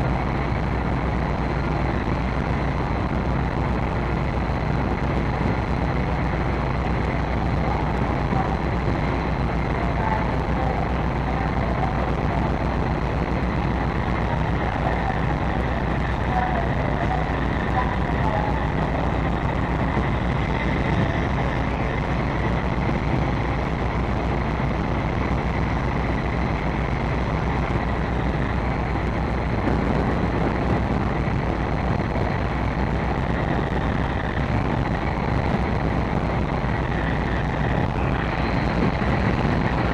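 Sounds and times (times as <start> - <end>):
faint high whine: 0.0 - 39.9
ship machinery low drone: 0.0 - 39.9.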